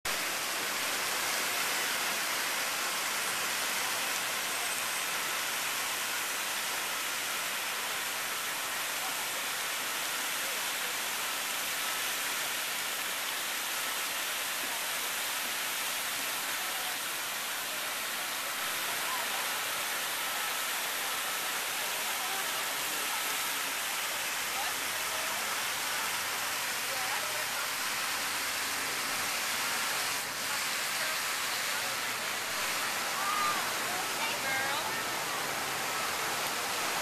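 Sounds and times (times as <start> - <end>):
water cascading and splashing: 0.0 - 37.0.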